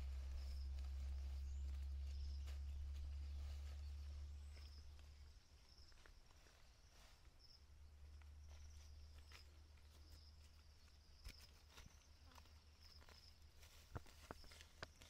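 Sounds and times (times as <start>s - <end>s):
faint clicks and rustles: 0.0s - 15.0s.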